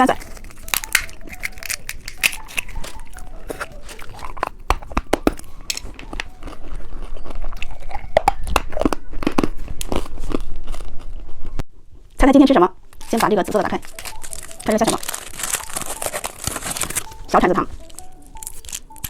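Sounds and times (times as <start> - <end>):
candy crunching: 0.0 - 11.6, 12.8 - 19.0.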